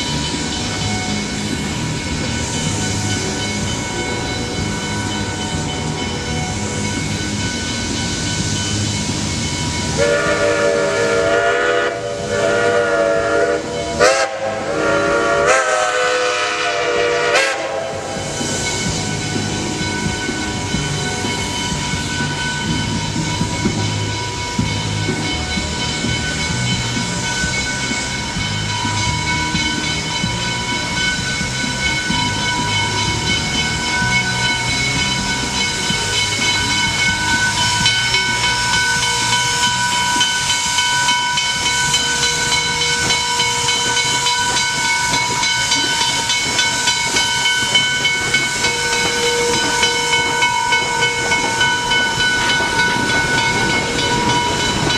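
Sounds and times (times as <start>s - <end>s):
steady high tones: 0.0s - 15.1s, 15.8s - 54.9s
steam hissing: 0.0s - 54.9s
steam locomotive exhaust beats: 0.0s - 54.9s.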